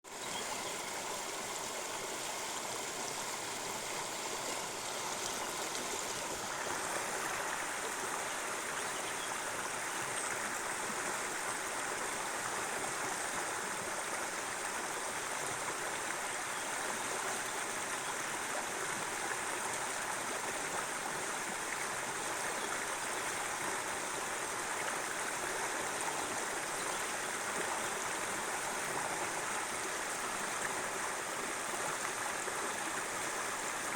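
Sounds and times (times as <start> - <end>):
river water flowing: 0.1 - 33.9.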